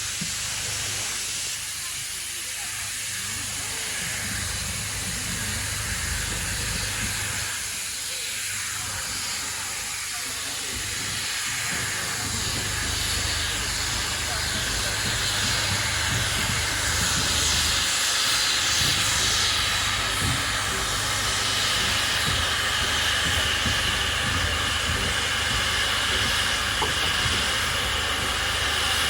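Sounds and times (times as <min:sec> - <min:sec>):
steam hissing from safety valves: 0:00.0 - 0:29.0.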